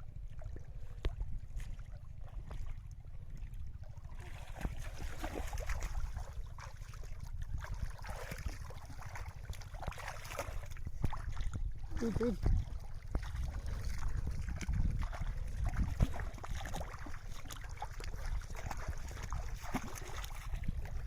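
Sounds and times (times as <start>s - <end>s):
steady low rumble: 0.0s - 19.5s
water splashing and sloshing: 0.0s - 21.0s.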